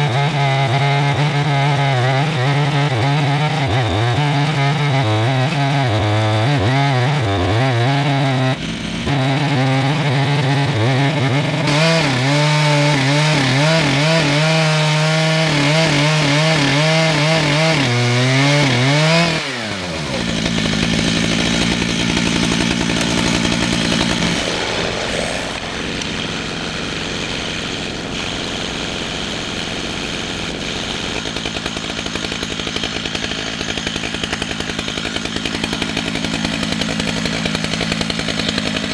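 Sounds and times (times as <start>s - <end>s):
chainsaw milling a log: 0.0s - 38.9s.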